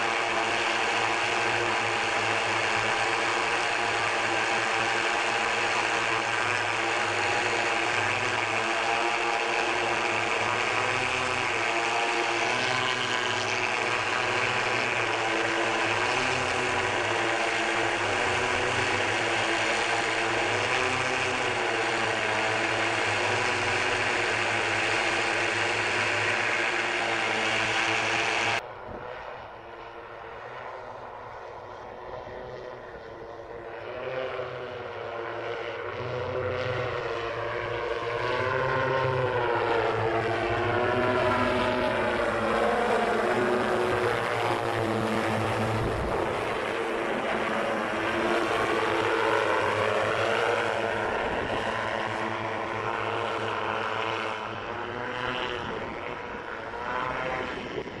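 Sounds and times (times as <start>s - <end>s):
multi-rotor aircraft drone: 0.0s - 58.0s.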